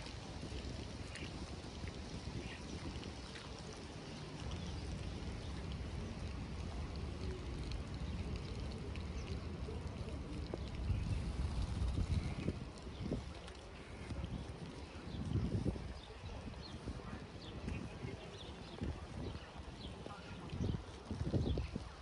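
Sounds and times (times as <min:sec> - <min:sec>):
faint drip ticks: 0:00.0 - 0:21.9
rain on stone paving: 0:00.0 - 0:22.0.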